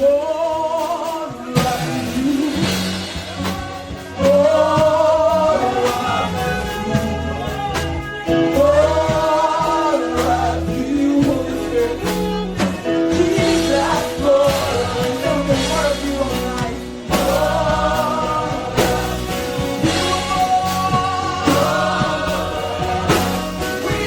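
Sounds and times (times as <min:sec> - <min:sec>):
band with bass and drums: 0:00.0 - 0:24.0
gospel singing: 0:00.0 - 0:24.0.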